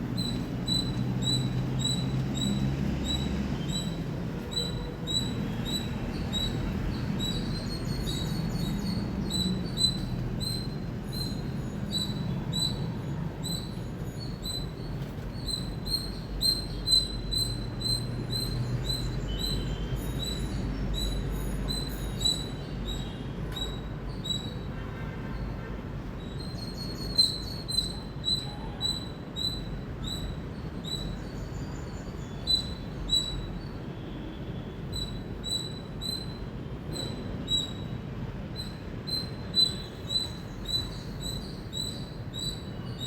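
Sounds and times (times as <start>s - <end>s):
squirrel chirping: 0.2s - 23.1s, 29.4s - 33.6s, 34.9s - 37.9s, 38.6s - 43.0s.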